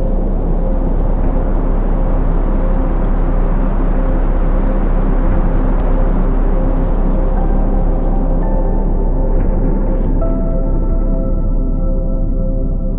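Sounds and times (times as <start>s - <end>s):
dense low rumble: 0.0s - 12.9s.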